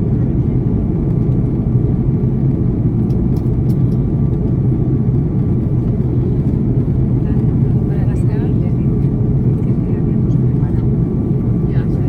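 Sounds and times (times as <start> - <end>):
aircraft cabin engine roar: 0.0 - 12.0.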